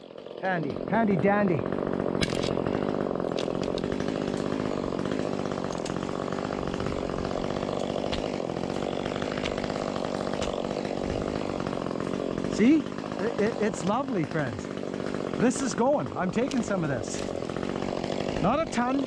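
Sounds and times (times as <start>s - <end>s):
chainsaw running: 0.0s - 19.0s.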